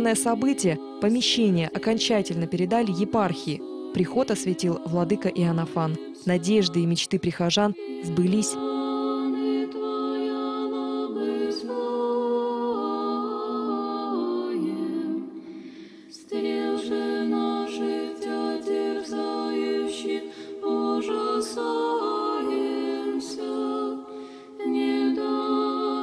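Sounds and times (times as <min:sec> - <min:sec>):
women singing chant a cappella: 0:00.0 - 0:26.0.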